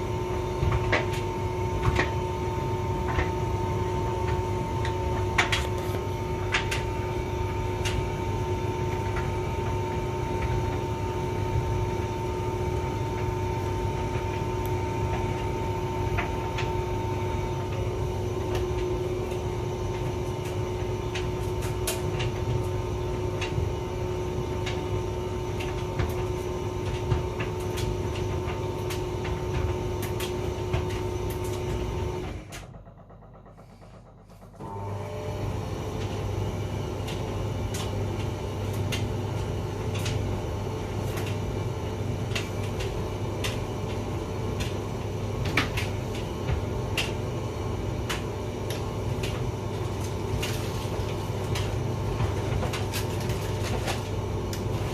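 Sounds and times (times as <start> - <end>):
tumble dryer humming: 0.0 - 54.9.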